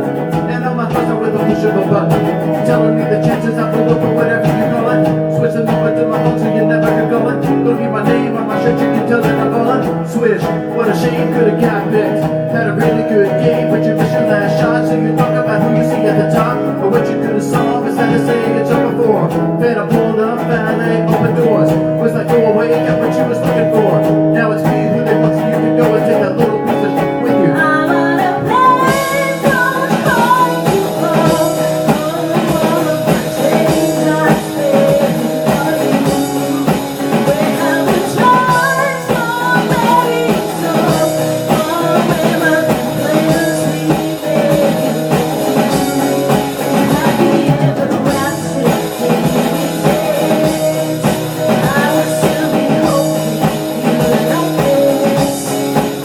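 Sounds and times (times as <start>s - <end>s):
person singing: 0.0s - 56.0s
pop-rock song with guitar: 0.0s - 56.0s.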